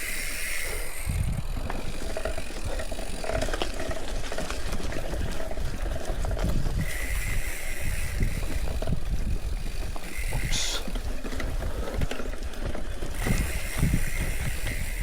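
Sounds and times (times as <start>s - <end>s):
bike rattling and clicking: 0.0s - 15.0s
wind and bumps rumble: 0.9s - 15.0s.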